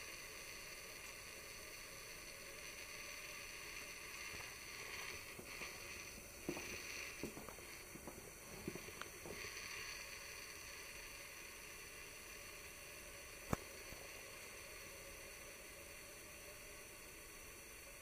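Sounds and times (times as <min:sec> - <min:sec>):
recording hiss: 0:00.0 - 0:18.0.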